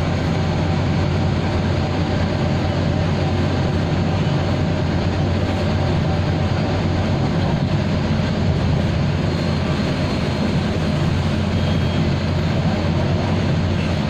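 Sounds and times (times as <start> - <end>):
bus engine drone: 0.0 - 14.0
road noise: 0.0 - 14.0.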